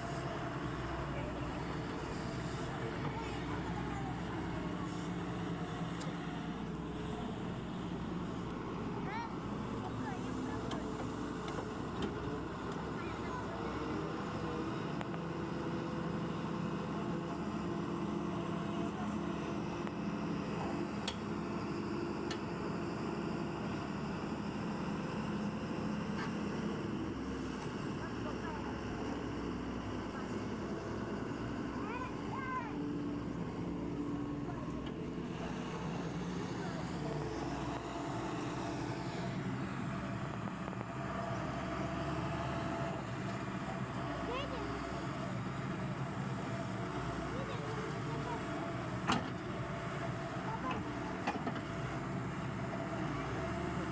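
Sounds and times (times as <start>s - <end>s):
diesel engine humming: 0.0s - 53.9s.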